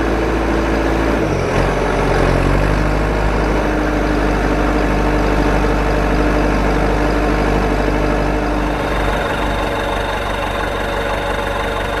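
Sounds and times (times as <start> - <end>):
engine-like running hum: 0.0 - 12.0.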